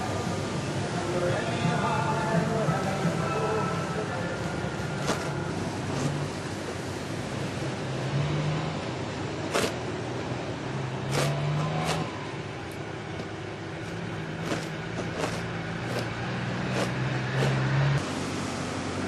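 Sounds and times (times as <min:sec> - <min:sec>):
cars rushing past: 0:00.0 - 0:19.0.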